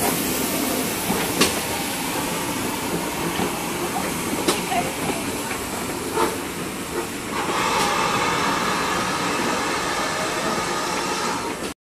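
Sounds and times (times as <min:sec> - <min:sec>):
steam hissing: 0:00.0 - 0:11.8
steam locomotive moving slowly: 0:00.0 - 0:11.8.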